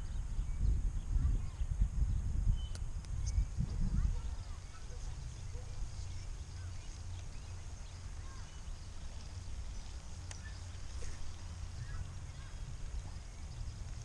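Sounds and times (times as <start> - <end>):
wind rumbling on microphone: 0.0 - 14.0
bird chirps: 2.5 - 14.0.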